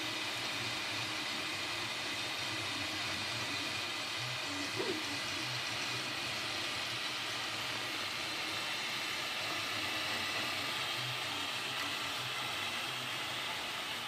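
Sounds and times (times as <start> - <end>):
fan whirring: 0.0 - 14.0
stepper motors humming: 0.0 - 14.0.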